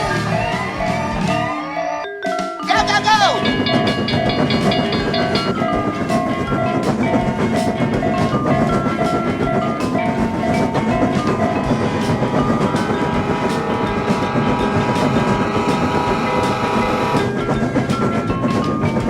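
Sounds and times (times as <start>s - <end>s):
railroad crossing alarm ringing: 0.0s - 19.0s
upbeat background music: 0.0s - 19.0s
train clickety-clack on rails: 3.2s - 19.0s.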